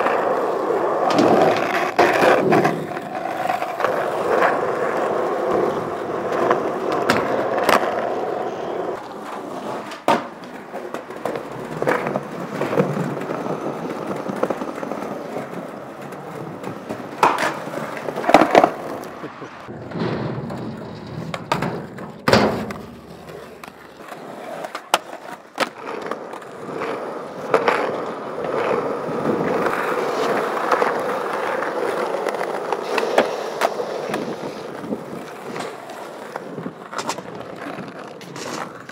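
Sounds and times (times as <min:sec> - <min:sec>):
skateboard clacks: 0:00.0 - 0:38.9
skateboard wheels rolling on concrete: 0:00.0 - 0:38.9.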